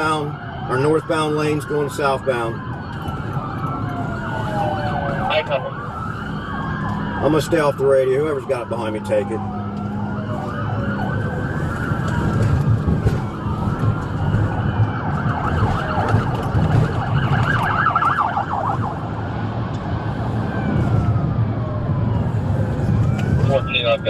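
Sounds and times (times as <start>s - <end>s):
engine rumble and road noise: 0.0s - 24.0s
police sirens wailing: 0.0s - 24.0s.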